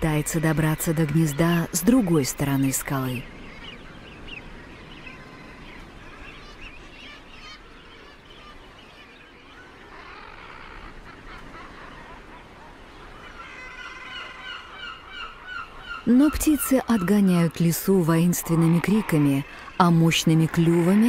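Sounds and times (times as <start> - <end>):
seabirds calling harshly: 0.0 - 21.0.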